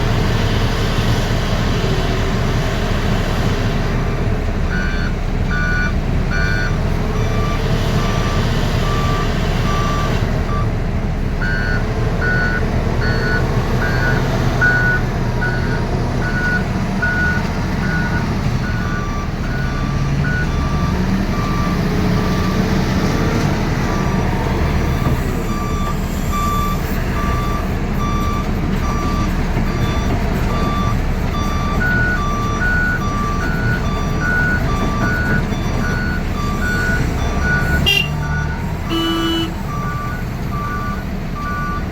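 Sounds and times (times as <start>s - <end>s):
diesel engine rumbling: 0.0s - 41.9s
reversing alarm beeps: 4.7s - 10.7s, 11.4s - 22.7s, 23.9s - 41.9s.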